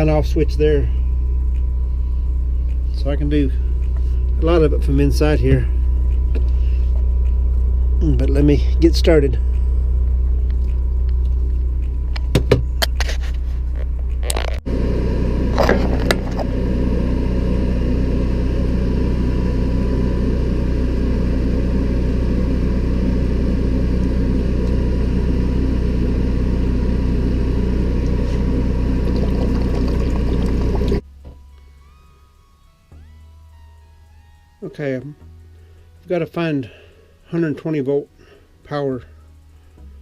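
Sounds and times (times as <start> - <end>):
generator droning: 0.0 - 40.0.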